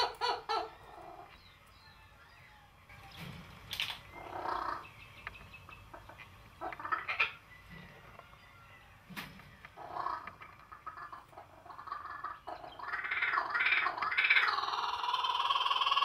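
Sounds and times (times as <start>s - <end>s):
animal calls: 0.0s - 2.9s, 3.8s - 8.9s, 9.6s - 16.0s.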